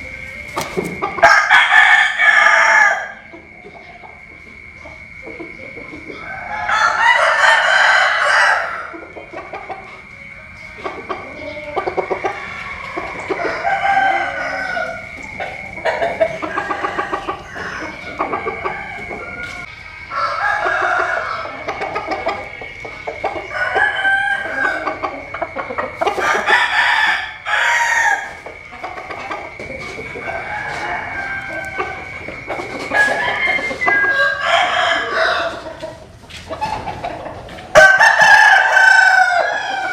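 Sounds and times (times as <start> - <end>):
chickens clucking: 0.0 - 39.9
roosters crowing: 0.0 - 39.9.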